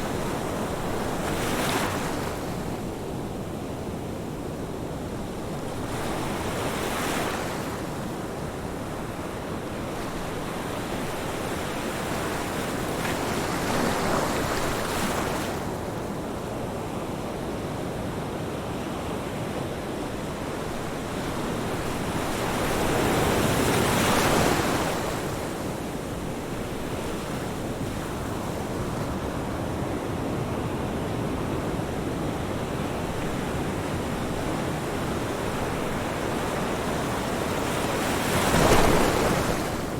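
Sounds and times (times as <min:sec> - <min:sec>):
ocean waves washing: 0:00.0 - 0:16.4, 0:19.4 - 0:39.9.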